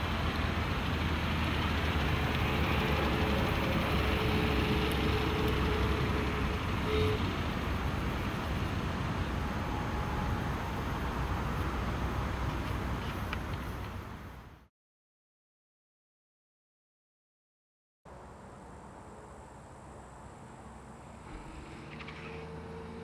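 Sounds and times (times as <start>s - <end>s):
roadster engine driving by: 0.0s - 14.6s, 18.2s - 23.0s.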